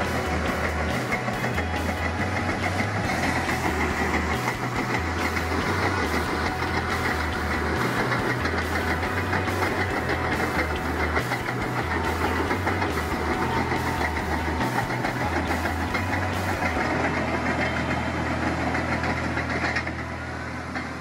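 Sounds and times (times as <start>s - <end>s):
background music with steady beat: 0.0s - 20.0s.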